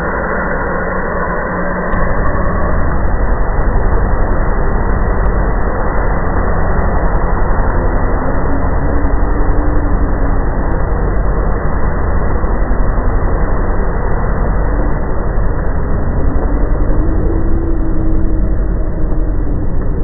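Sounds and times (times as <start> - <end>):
faint wavering tones: 0.0 - 20.0
low rumbling drone: 0.0 - 20.0.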